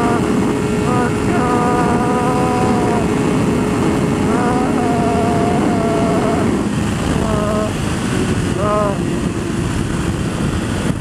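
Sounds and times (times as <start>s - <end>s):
motorcycle engine at high revs: 0.0s - 11.0s
wind noise: 0.0s - 11.0s.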